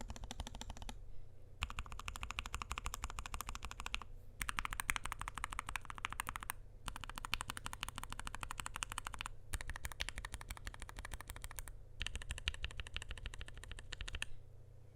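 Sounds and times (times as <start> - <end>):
fast typing on mechanical keyboard: 0.0 - 1.0, 1.6 - 14.3.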